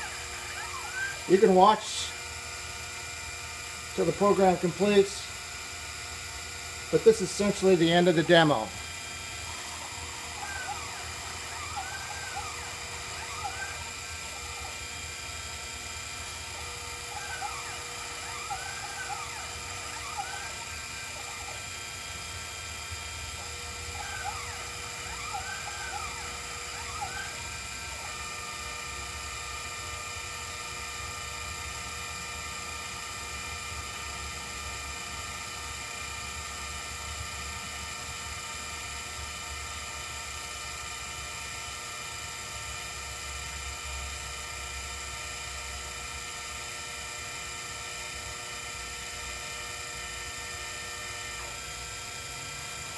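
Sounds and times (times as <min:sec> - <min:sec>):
stepper motors whining: 0:00.0 - 0:38.7, 0:47.6 - 0:52.9.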